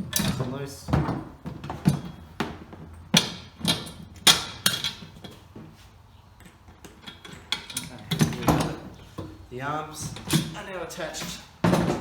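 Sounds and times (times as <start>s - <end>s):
bolts and nuts clicking and knocking: 0.0s - 5.4s, 6.4s - 9.4s, 10.0s - 12.0s.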